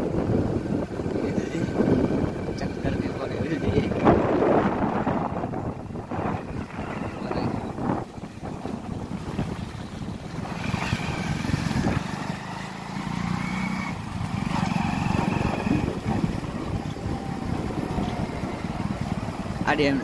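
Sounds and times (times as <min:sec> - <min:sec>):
vehicle engine running: 0:00.0 - 0:20.0
wind noise: 0:00.0 - 0:20.0.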